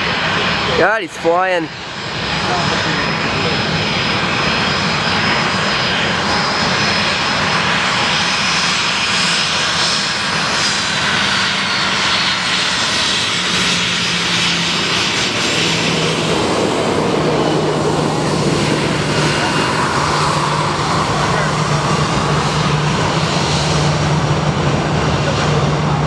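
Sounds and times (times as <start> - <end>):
jet engines taxiing: 0.0 - 26.0
turboprop engines: 0.0 - 26.0.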